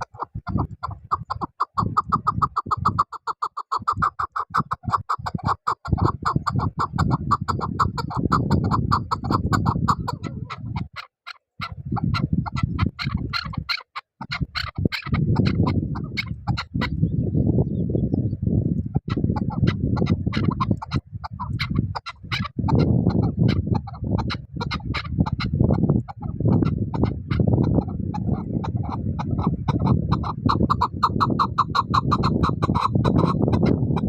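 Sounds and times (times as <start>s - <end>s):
partridge clucking calls: 0.0s - 17.2s, 18.9s - 34.0s.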